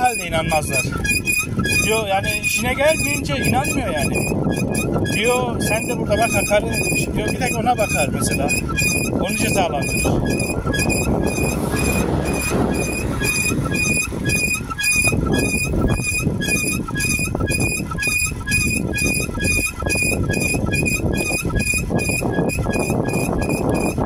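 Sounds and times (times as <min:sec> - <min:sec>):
bicycle squeaking rhythmically: 0:00.0 - 0:24.0
wind and road rumble: 0:00.0 - 0:24.0.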